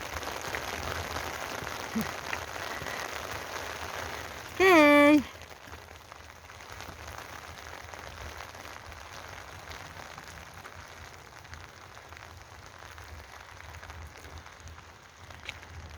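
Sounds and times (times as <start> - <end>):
rain falling: 0.0 - 15.9.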